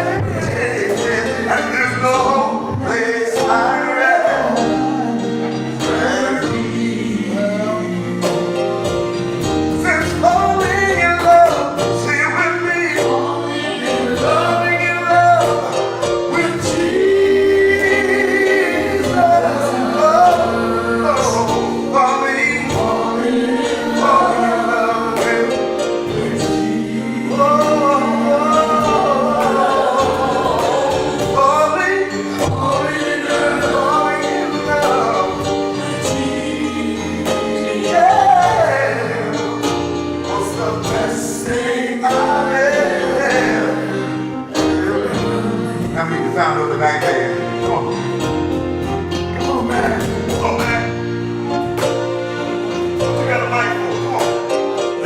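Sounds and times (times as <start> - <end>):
instrumental accompaniment: 0.0 - 55.0
voices singing gospel song: 0.0 - 55.0.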